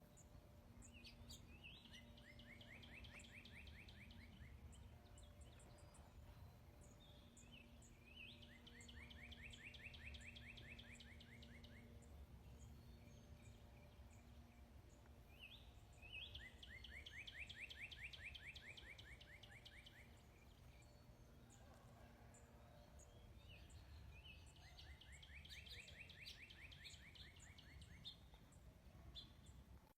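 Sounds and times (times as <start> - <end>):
songbird singing a fast trill: 0.1 - 6.2, 6.8 - 14.7, 15.3 - 21.5, 23.0 - 28.4.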